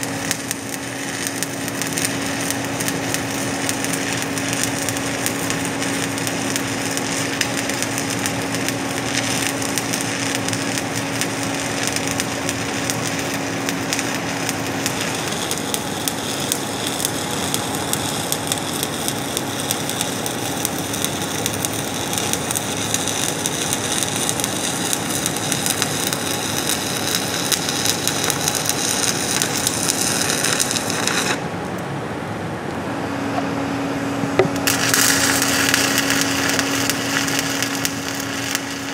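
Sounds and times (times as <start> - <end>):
welding arc crackling: 0.0 - 31.5, 34.4 - 38.9.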